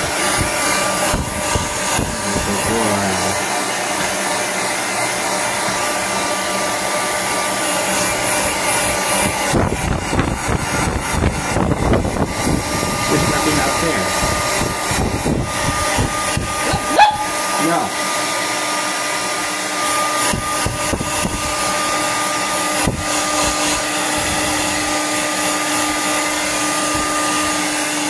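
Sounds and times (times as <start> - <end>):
hair dryer blowing: 0.0 - 28.0.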